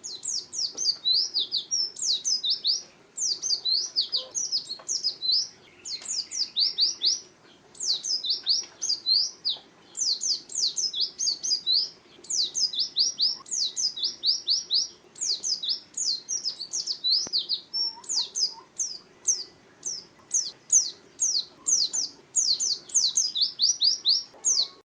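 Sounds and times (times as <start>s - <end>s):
white-eye singing chattering song: 0.0s - 24.8s.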